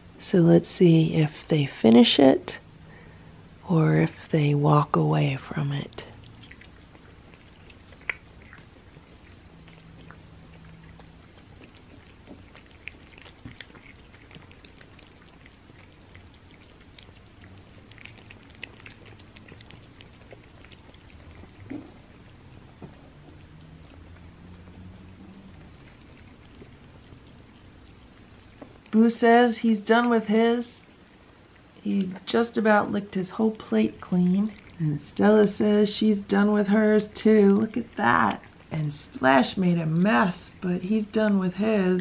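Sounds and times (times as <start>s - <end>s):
cats chewing and licking: 1.3s - 42.0s.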